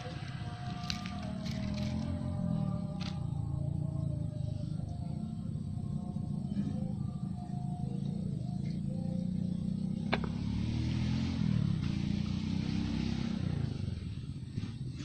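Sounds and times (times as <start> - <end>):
vehicle engine rumble passing: 0.0 - 15.0.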